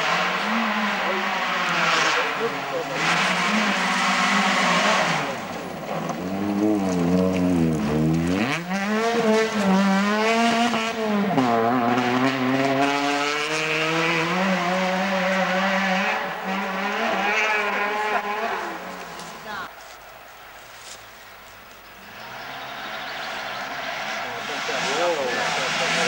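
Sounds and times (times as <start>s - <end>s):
rally car engine revving: 0.0s - 19.7s, 21.9s - 26.0s.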